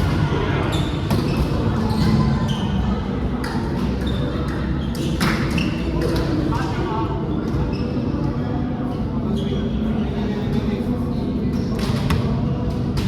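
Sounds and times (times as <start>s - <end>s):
players' voices: 0.0s - 13.0s.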